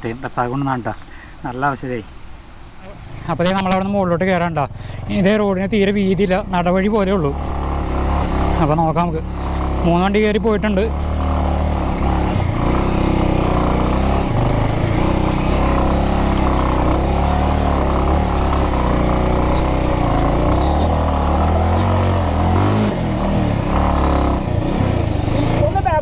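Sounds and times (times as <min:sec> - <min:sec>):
motorcycle engine revving under load: 0:02.9 - 0:26.0.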